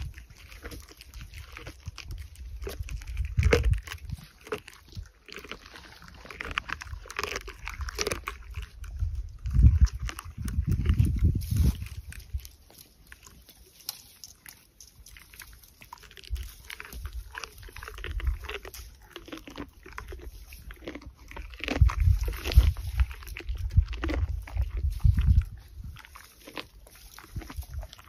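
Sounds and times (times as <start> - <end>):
camel chewing dry thorns: 0.0 - 28.0.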